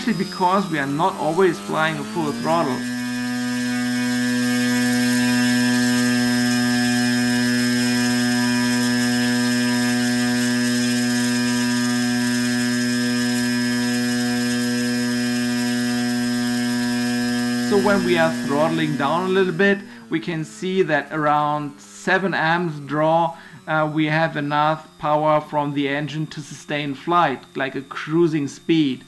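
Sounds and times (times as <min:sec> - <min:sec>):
electric motor spinning propeller: 0:00.0 - 0:29.0.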